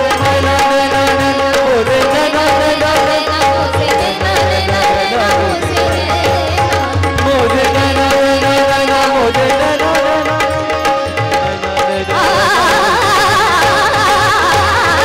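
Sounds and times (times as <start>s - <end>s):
harmonium: 0.0s - 15.0s
tabla: 0.0s - 15.0s
woman singing: 0.1s - 15.0s.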